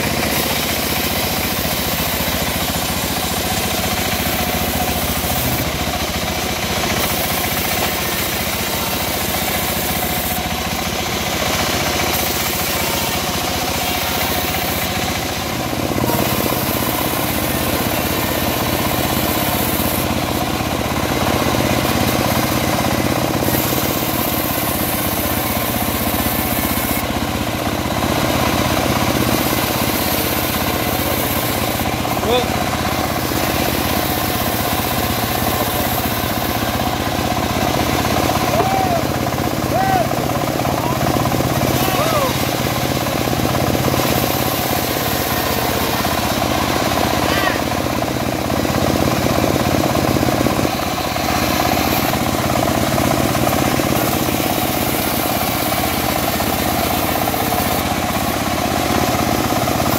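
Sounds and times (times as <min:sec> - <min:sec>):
saw blade rasping through wood: 0:00.0 - 0:38.5, 0:39.1 - 0:59.9
engine drone: 0:00.0 - 0:59.9.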